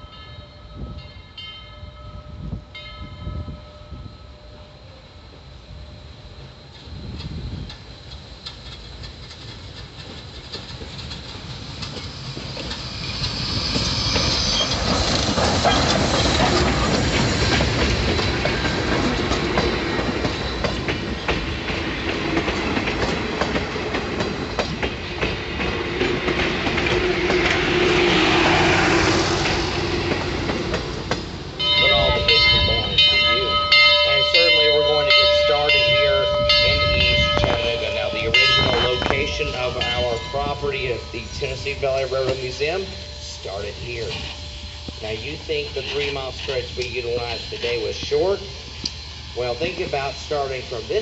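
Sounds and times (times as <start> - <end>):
train wheels clicking over rail joints: 6.6 - 51.0.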